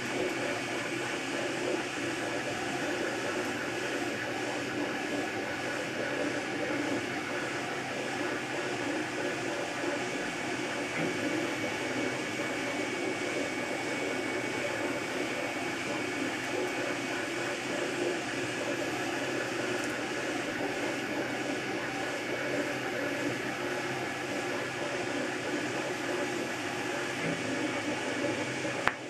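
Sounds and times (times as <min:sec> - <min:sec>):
fans running: 0:00.0 - 0:29.0.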